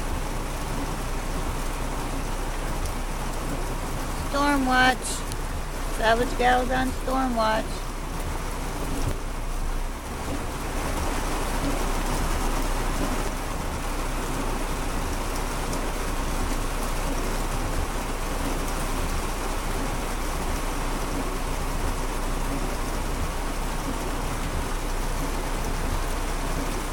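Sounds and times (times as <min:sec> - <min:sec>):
heavy rain drumming on car roof: 0:00.0 - 0:26.9.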